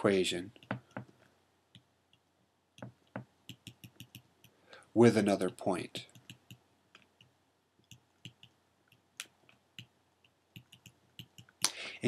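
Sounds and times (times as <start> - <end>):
stylus tapping on tablet screen: 0.6 - 4.6, 5.5 - 11.8.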